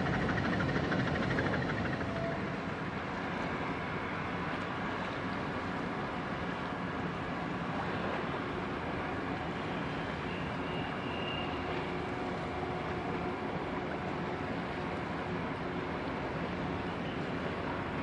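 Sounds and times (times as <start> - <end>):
tugboat engines rumbling: 0.0 - 18.0.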